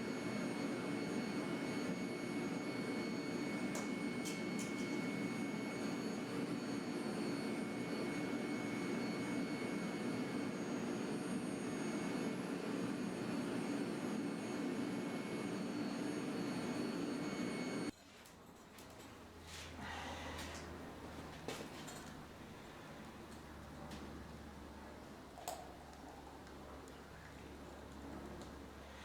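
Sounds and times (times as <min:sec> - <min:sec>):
machine humming with high whine: 0:00.0 - 0:17.9, 0:19.6 - 0:29.0.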